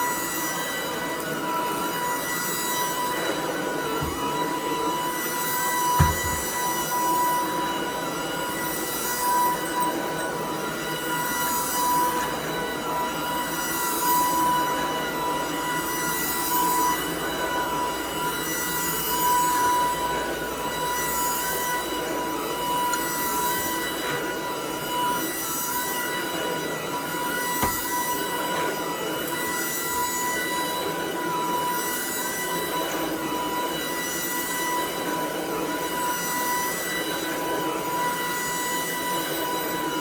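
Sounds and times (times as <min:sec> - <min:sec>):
vacuum motor whine: 0:00.0 - 0:40.0.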